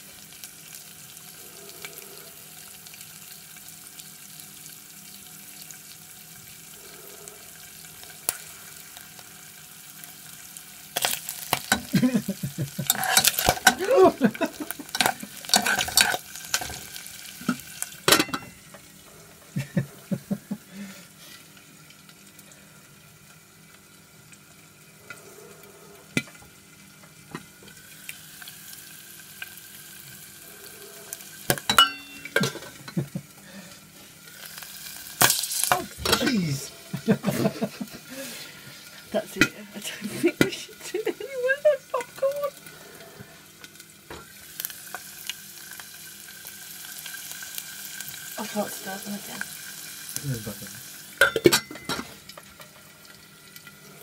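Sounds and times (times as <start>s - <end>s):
mushrooms sizzling in hot oil: 0.0s - 54.0s.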